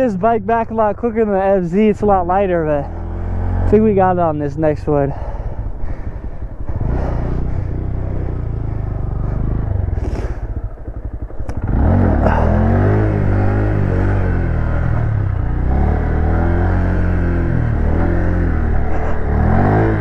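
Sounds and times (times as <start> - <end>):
small motorcycle engine revving: 2.8 - 4.0, 5.1 - 20.0.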